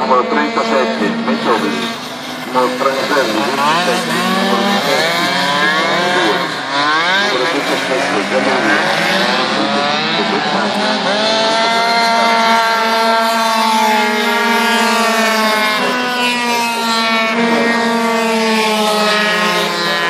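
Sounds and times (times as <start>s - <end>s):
scooter engines whining at high revs: 0.0s - 20.0s.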